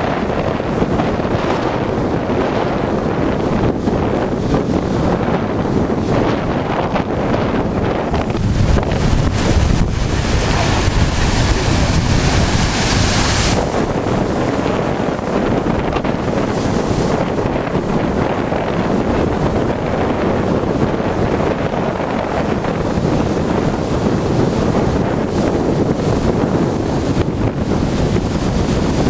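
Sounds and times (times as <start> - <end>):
storm waves crashing: 0.0 - 29.0
wind rumble on microphone: 0.0 - 29.0.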